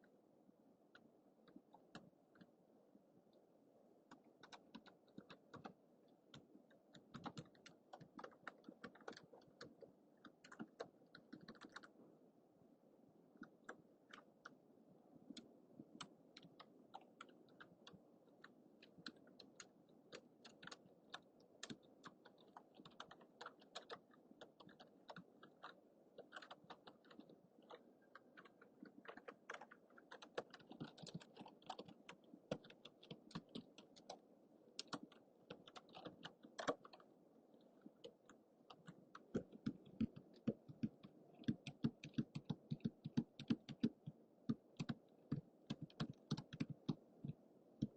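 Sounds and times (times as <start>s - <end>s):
faint microphone hiss: 0.0s - 47.9s
keyboard typing clicks: 4.1s - 11.9s, 15.3s - 34.2s, 34.8s - 37.0s, 38.0s - 47.9s.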